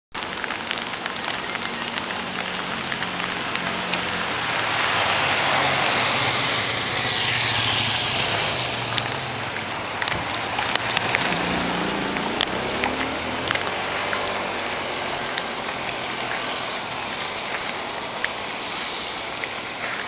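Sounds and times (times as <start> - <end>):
rain hissing on wet street: 0.1 - 20.0
water drips ticking: 0.1 - 20.0
faint low vehicle hum: 0.4 - 20.0.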